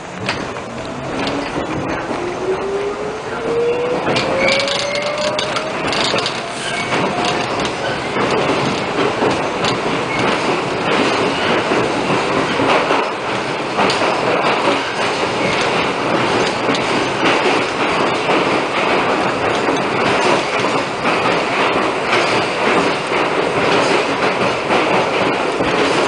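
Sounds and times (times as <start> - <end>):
train wheels rumbling on rails: 0.0 - 26.0
rapid clicks and rattles: 4.0 - 26.0.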